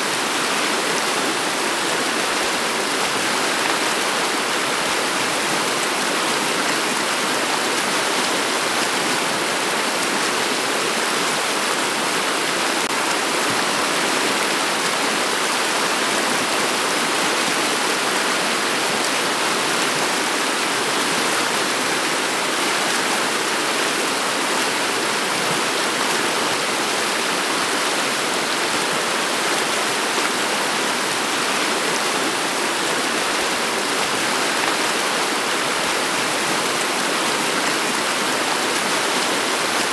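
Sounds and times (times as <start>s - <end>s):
river flowing over pebbles: 0.0s - 39.9s.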